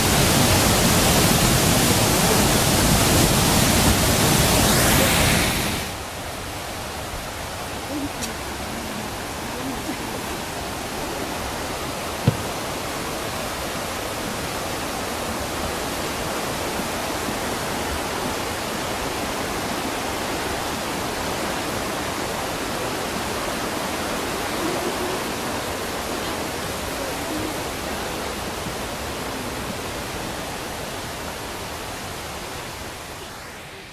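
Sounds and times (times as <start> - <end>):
mountain stream rushing: 0.0 - 33.9.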